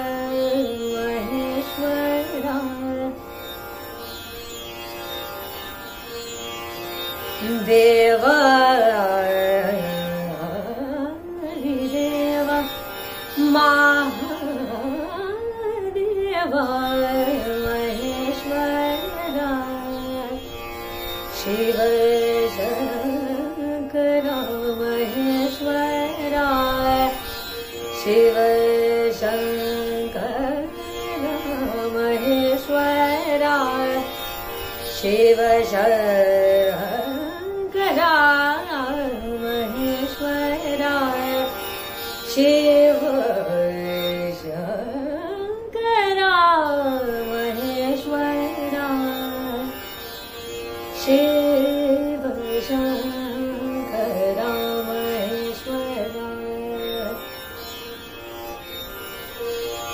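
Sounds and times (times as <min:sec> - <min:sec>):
woman singing classical vocals: 0:00.0 - 0:03.6, 0:07.4 - 0:20.6, 0:21.2 - 0:50.0, 0:50.8 - 0:57.8.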